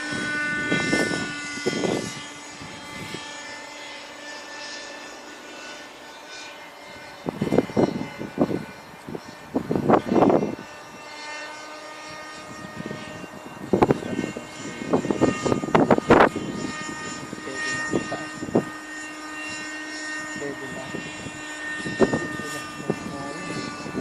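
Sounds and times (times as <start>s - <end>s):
rc helicopter engine whine: 0.0s - 24.0s.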